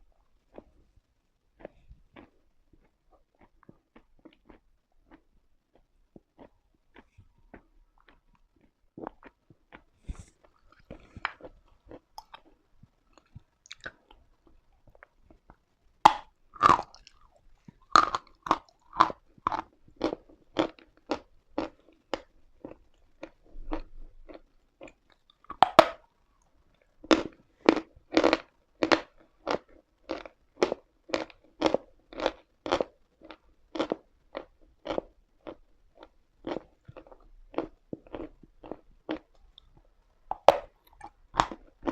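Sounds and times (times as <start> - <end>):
person chewing chalk: 1.5 - 41.9.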